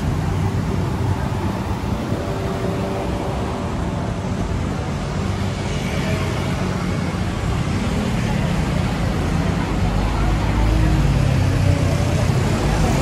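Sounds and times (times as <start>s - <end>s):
road traffic engines running: 0.0s - 13.0s.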